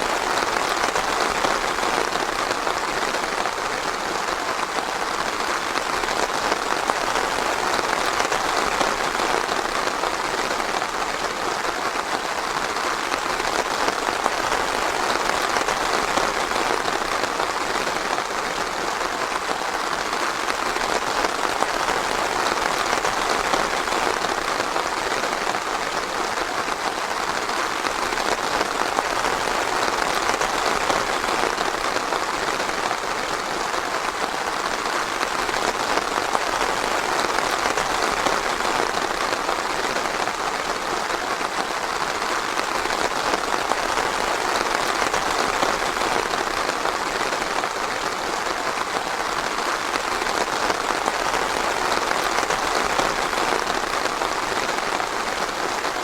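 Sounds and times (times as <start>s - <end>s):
rain pattering on foliage: 0.0s - 56.0s.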